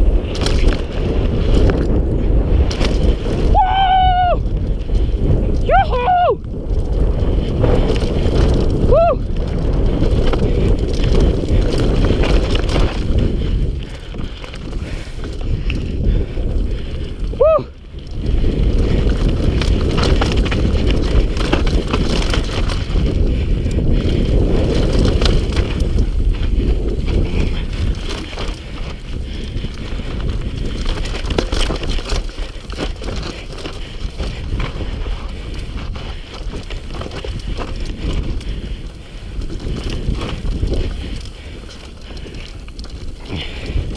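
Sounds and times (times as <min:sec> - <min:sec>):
bike jolting over stones: 0:00.0 - 0:43.9
wind buffeting microphone: 0:00.0 - 0:43.9
tyres rattling on gravel: 0:06.6 - 0:43.9.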